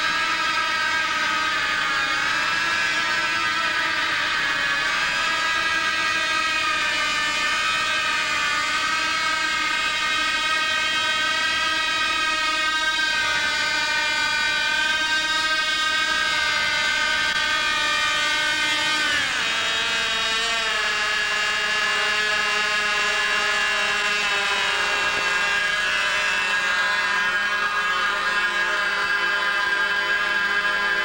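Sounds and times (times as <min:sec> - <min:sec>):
model aircraft engine whining: 0:00.0 - 0:31.0.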